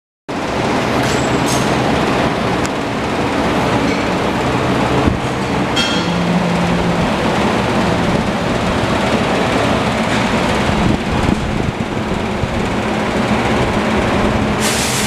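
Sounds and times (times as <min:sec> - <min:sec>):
loud mechanical rushing noise: 0:00.3 - 0:15.0.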